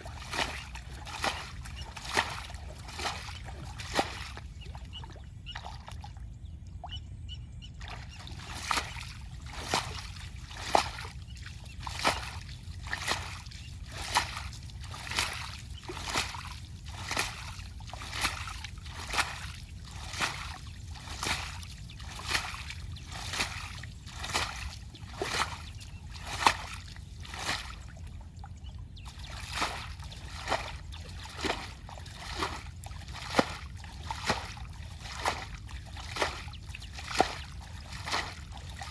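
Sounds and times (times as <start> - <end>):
water splashing rhythmically: 0.0 - 38.9.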